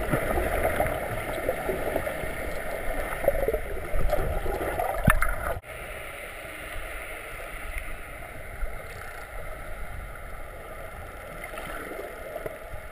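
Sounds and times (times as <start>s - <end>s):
water rushing: 0.0s - 12.9s.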